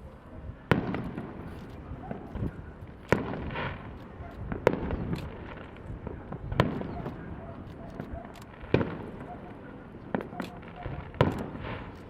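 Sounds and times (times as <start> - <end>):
fireworks bangs: 0.7 - 12.0
small firework pops: 0.7 - 12.0.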